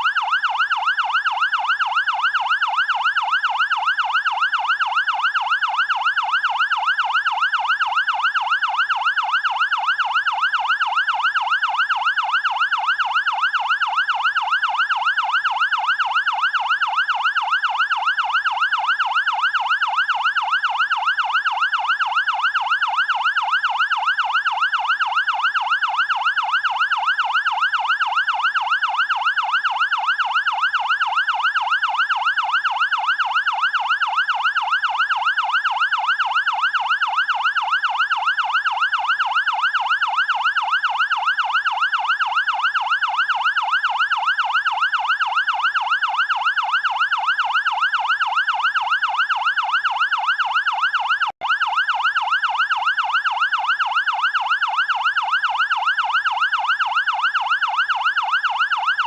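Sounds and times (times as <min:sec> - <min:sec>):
fire engine siren yelping: 0:00.0 - 0:59.0.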